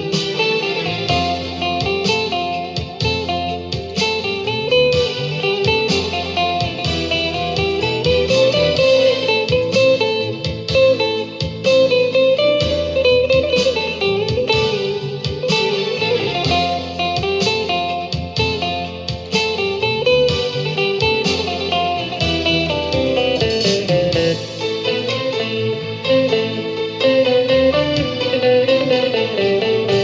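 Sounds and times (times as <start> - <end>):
bass line: 0.0 - 30.0
plucked guitar melody: 0.0 - 30.0.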